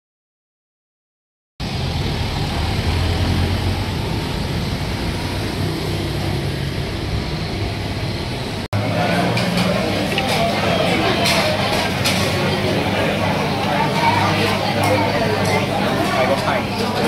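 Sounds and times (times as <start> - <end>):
low rumble of vehicle noise: 1.6 - 16.2.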